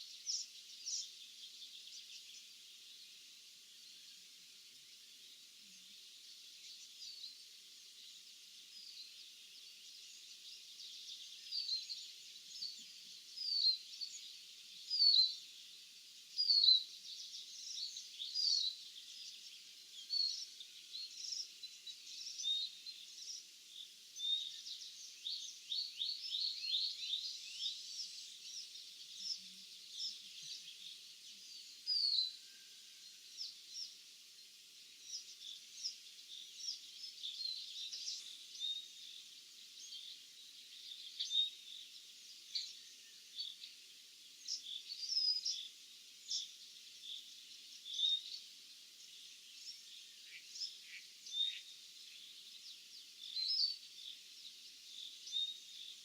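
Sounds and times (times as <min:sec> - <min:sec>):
faint steady background hiss: 0:00.0 - 0:56.0
small birds chirping and singing: 0:00.0 - 0:56.0.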